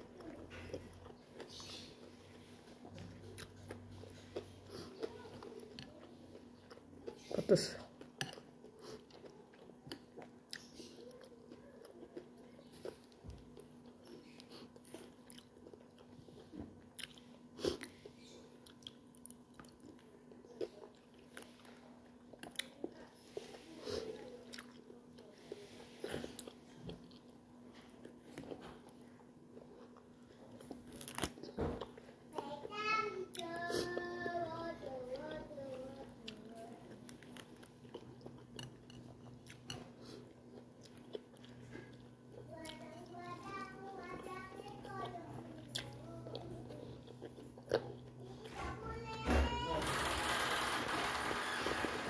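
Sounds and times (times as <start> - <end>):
person chewing soft food: 0.0 - 48.6
faint steady hum: 0.0 - 52.0.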